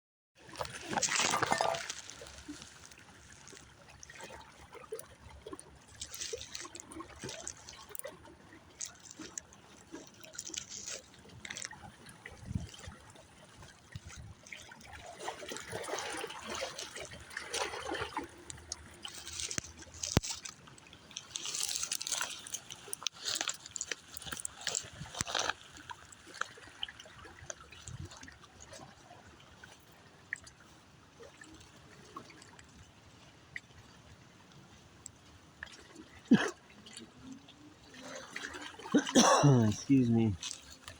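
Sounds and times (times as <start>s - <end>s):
water splashing and trickling: 0.4s - 40.9s.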